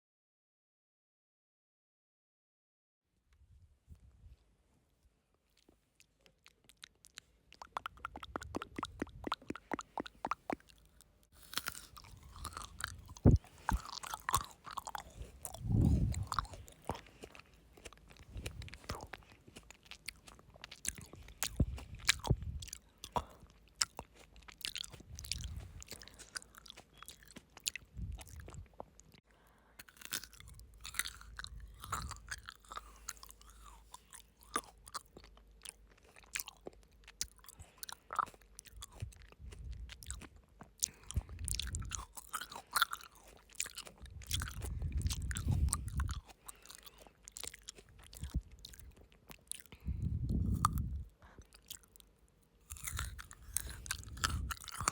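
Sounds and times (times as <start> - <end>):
frozen grapes crunching: 5.6 - 29.2, 29.8 - 54.9.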